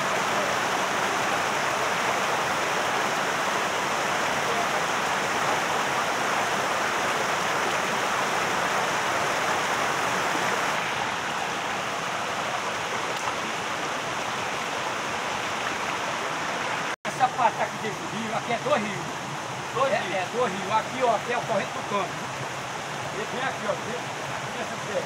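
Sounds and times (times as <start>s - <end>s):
stream rushing over boulders: 0.0s - 25.0s.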